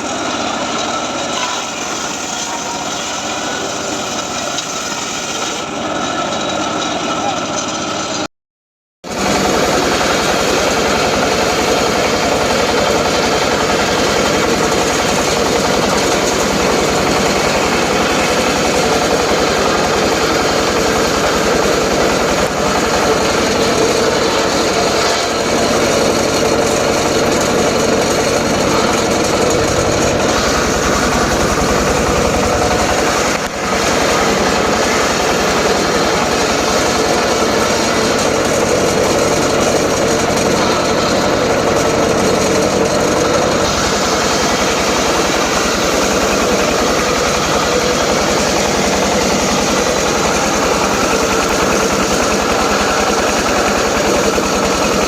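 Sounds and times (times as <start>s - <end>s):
circular saw cutting wood: 0.0s - 8.2s, 9.2s - 55.0s.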